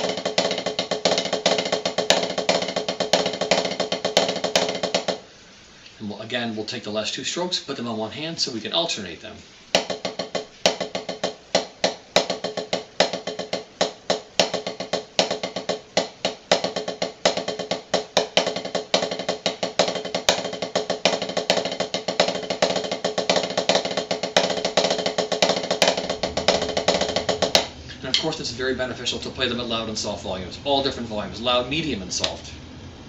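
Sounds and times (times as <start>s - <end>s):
snare drum rudiments: 0.0s - 5.3s, 9.7s - 31.0s.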